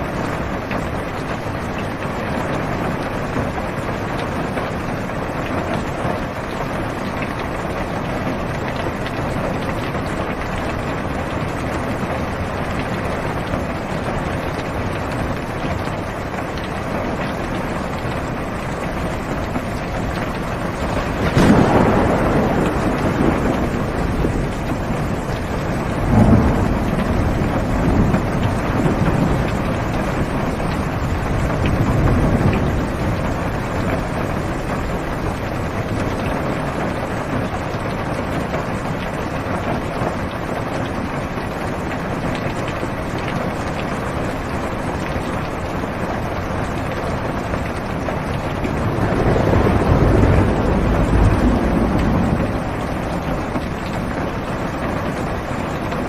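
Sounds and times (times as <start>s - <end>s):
rain drumming on car roof: 0.0s - 56.0s
thunder rumbling: 0.0s - 56.0s.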